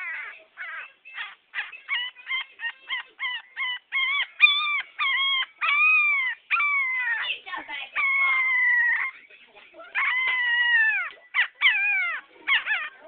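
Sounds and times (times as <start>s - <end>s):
puppy yipping and howling: 0.0s - 7.4s, 8.0s - 9.2s, 9.9s - 13.0s.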